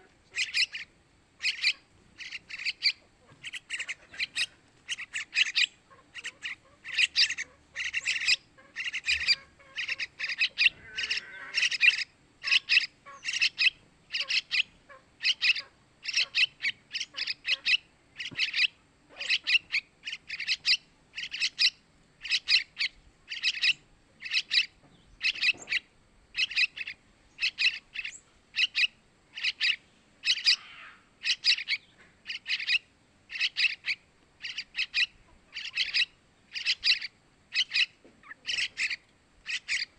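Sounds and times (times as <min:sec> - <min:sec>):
bird harsh chirping: 0:00.3 - 0:39.9.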